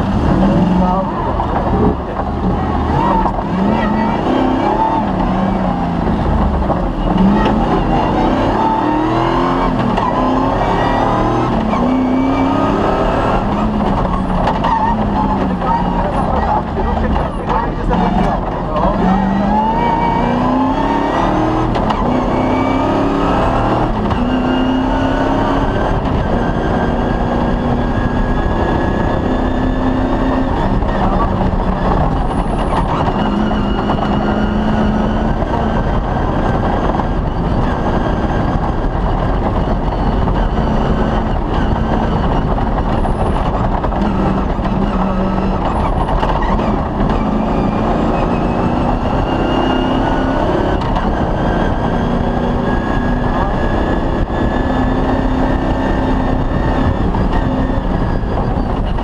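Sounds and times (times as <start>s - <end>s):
constant dense noise: 0.0s - 59.0s
rally car engine revving: 0.0s - 59.0s.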